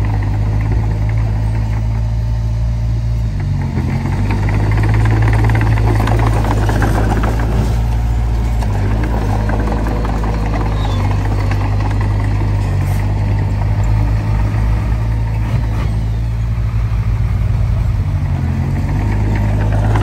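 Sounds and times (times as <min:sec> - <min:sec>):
bulldozer diesel engine: 0:00.0 - 0:20.0.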